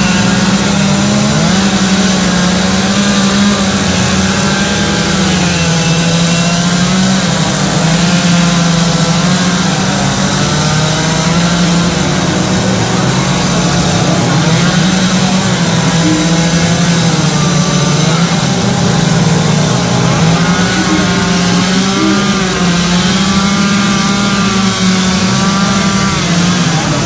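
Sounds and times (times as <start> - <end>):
chainsaws running at high revs: 0.0 - 27.0.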